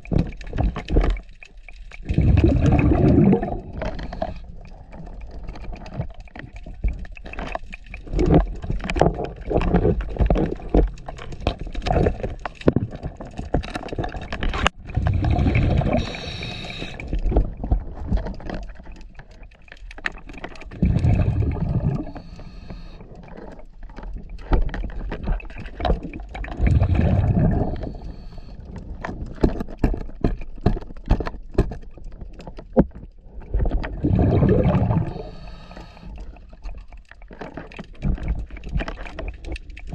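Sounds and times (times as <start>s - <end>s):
sharp clicks and crackles: 0.0s - 34.7s, 35.3s - 39.9s
exhaled bubbles gurgling underwater: 0.0s - 39.9s.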